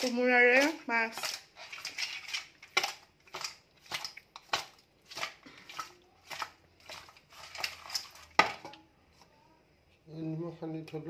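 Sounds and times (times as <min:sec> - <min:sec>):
hand squishing fish in bowl: 0:00.0 - 0:09.3.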